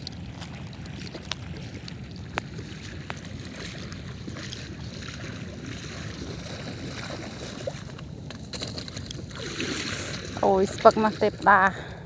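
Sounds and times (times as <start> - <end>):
wading in shallow water: 0.0 - 12.0
wind rumbling on microphone: 0.0 - 12.0.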